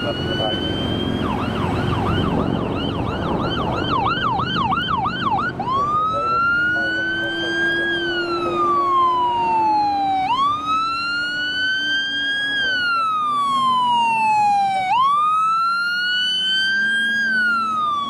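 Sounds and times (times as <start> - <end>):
engine and road noise: 0.0 - 18.0
fire engine siren: 0.0 - 18.0.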